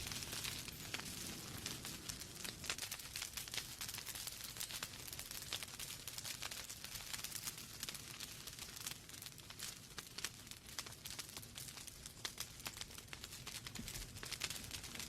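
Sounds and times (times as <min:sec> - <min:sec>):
flames hissing and rumbling: 0:00.0 - 0:15.0
wood fire crackling and popping: 0:00.0 - 0:15.0.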